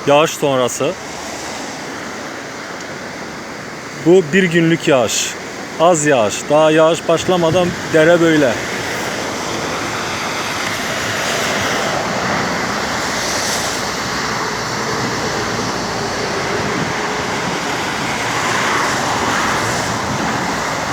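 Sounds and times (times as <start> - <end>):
stream rushing: 0.0 - 20.9.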